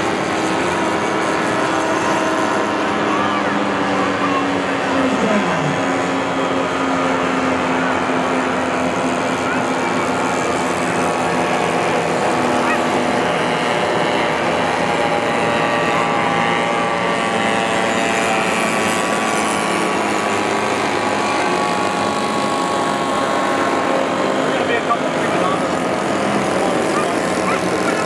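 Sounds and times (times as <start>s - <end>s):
model airplane engines droning: 0.0s - 28.0s.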